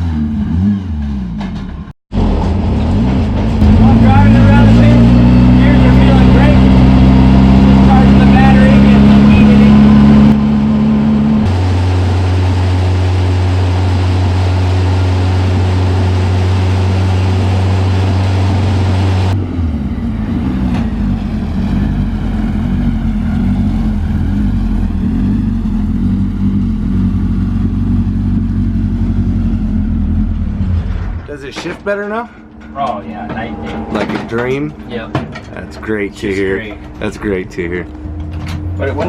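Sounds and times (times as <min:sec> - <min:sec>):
truck engine running: 0:00.0 - 0:31.3, 0:32.2 - 0:39.0.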